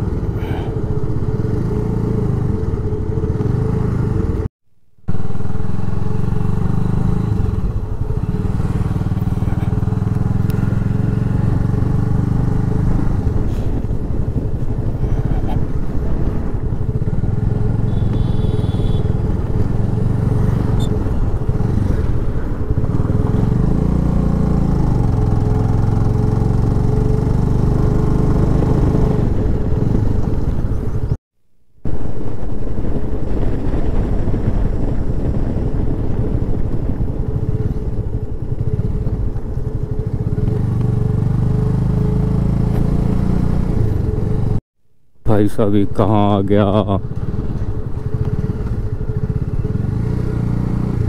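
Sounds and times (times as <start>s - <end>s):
motorcycle engine revving: 0.0s - 4.5s, 5.1s - 31.2s, 31.9s - 44.6s, 46.2s - 51.0s.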